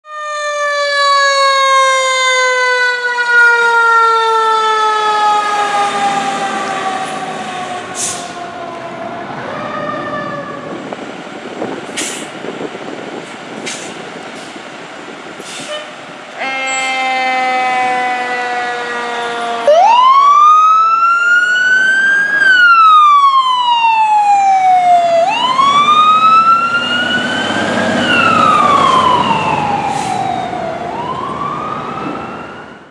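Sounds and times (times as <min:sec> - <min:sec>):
fire truck siren wailing: 0:00.0 - 0:32.9.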